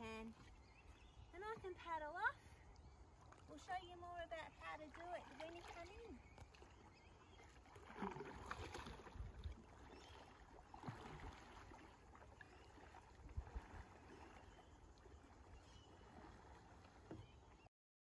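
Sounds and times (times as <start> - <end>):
kayak paddle splashing: 0.0 - 17.7.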